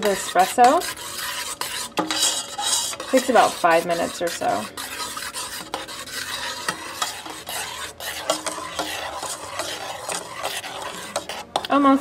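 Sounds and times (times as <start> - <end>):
metal whisk scraping a saucepan: 0.0 - 12.0.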